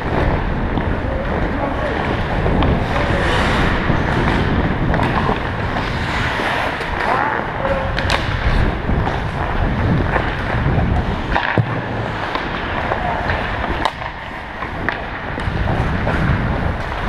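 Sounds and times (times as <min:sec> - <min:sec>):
ice skate blades scraping: 0:00.0 - 0:17.0
wind on microphone: 0:00.0 - 0:17.0.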